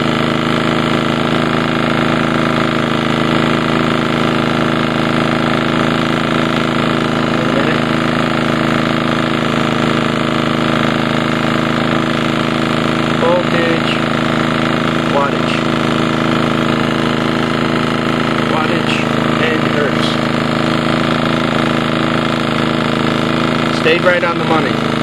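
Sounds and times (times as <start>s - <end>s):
generator engine running: 0.0s - 25.0s.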